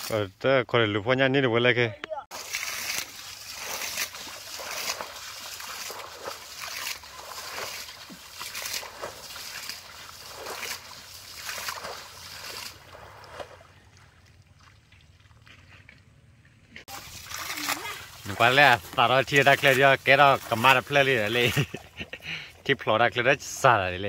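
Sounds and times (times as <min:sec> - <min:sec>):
muddy water splashing: 0:00.0 - 0:00.3, 0:02.2 - 0:23.9.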